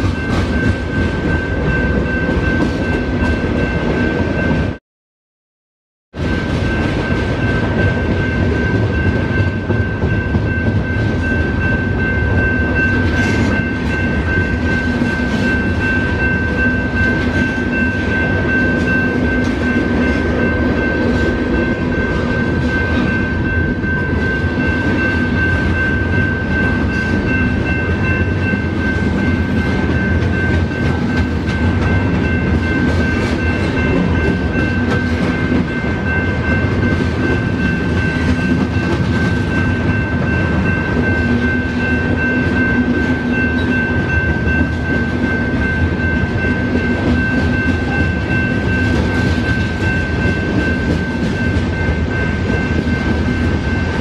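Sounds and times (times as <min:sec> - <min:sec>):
freight train wheels rumbling: 0:00.0 - 0:04.8, 0:06.1 - 0:54.0
steady high tone: 0:06.2 - 0:54.0.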